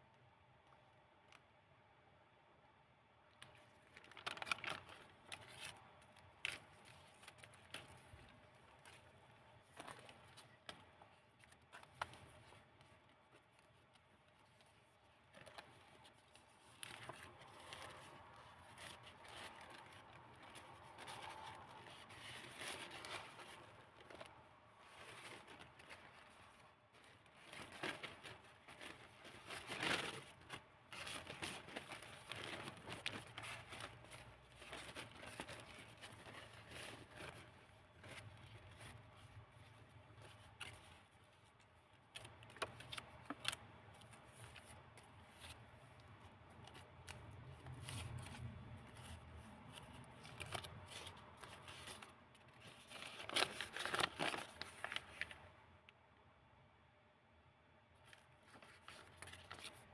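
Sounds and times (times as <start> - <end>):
small taps and crinkles: 3.3 - 56.0
paper pages rustling: 3.4 - 55.6, 58.0 - 59.9.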